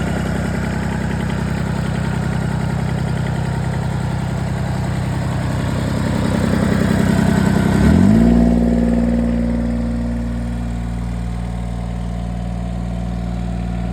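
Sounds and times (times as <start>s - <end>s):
tractor diesel engine revving: 0.0s - 13.9s.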